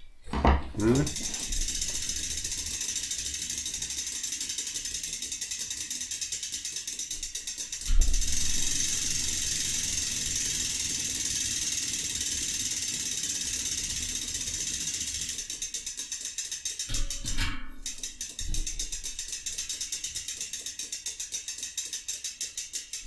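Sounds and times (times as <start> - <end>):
bicycle freewheel clicking: 0.8 - 23.0.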